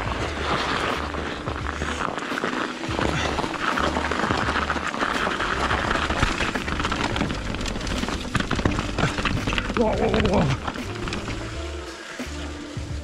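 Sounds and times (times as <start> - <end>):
bike tyre noise: 0.0 - 13.0.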